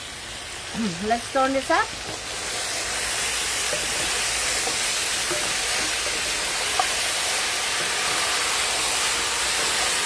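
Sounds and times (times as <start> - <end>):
chicken sizzling in pot: 0.0 - 10.0.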